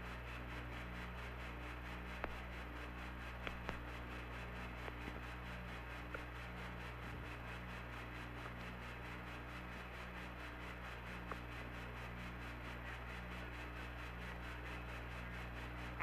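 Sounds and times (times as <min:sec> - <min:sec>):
radio hiss and low hum: 0:00.0 - 0:16.0.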